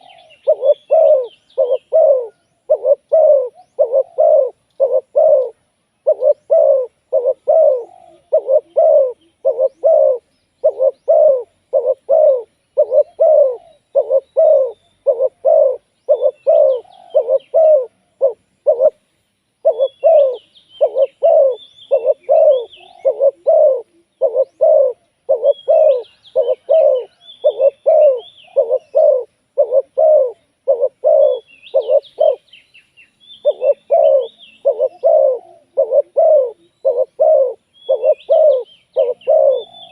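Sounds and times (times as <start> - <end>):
dove cooing: 0.0 - 19.0, 19.6 - 32.6, 33.4 - 39.9
small birds chirping faintly: 0.0 - 39.9.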